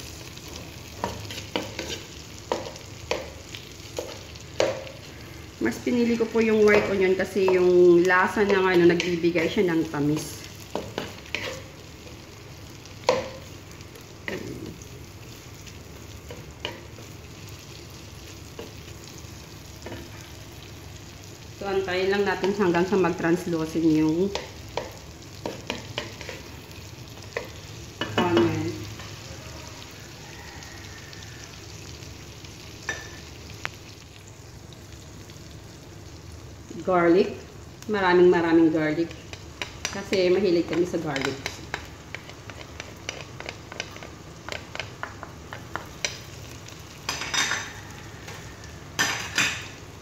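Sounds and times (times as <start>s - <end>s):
onion sizzling: 0.0s - 50.0s.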